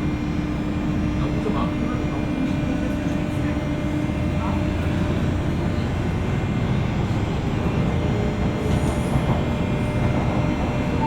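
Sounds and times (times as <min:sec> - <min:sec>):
train car and wheels rumbling: 0:00.0 - 0:11.0.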